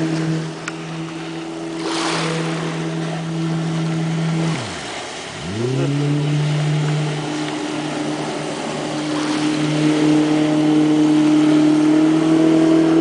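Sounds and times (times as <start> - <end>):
outboard motor running: 0.0 - 13.0
water rushing past: 0.0 - 13.0.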